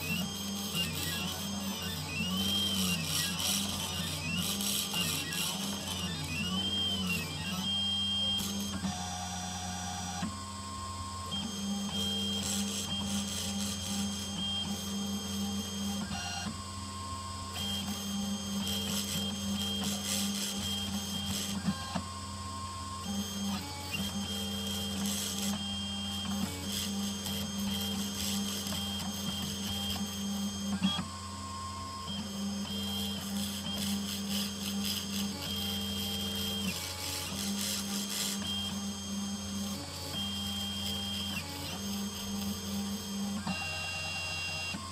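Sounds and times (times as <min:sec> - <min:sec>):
stepper motors whining: 0:00.0 - 0:10.2, 0:10.8 - 0:16.4, 0:17.5 - 0:22.1, 0:23.0 - 0:44.9
spindle motor humming: 0:00.0 - 0:44.9.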